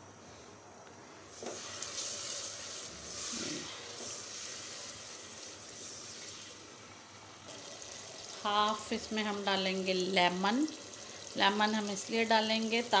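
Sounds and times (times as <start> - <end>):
syrup sizzling in saucepan: 1.3 - 13.0.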